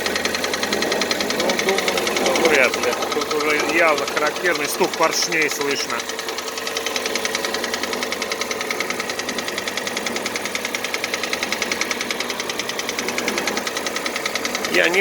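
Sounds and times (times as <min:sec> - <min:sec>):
car engine idling with knock: 0:00.0 - 0:15.0.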